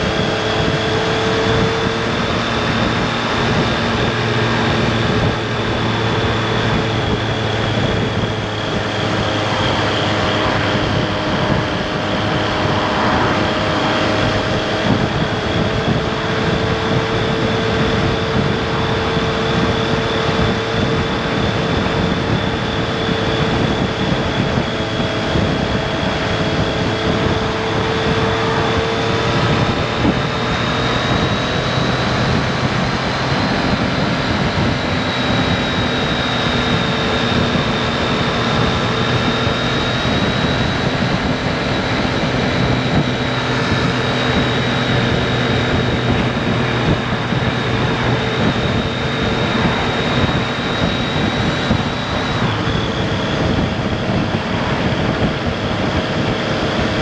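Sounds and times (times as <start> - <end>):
motorcycle engine cruising: 0.0 - 57.0
thin high whine: 0.0 - 57.0
wind and road noise: 0.0 - 57.0.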